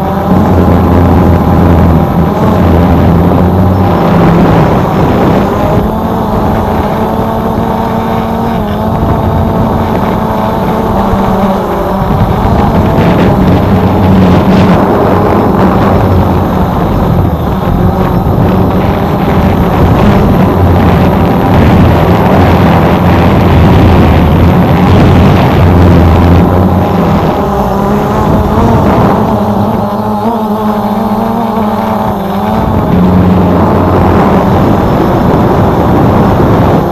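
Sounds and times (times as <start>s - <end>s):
drone propellers whirring: 0.0s - 36.9s
wind rumble: 0.0s - 36.9s.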